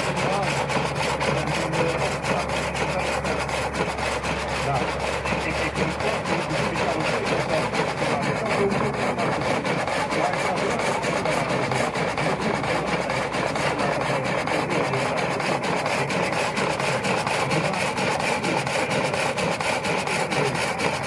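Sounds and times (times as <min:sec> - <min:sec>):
saw rasping through wood: 0:00.0 - 0:21.0
stationary engine rapid beat: 0:00.0 - 0:21.0.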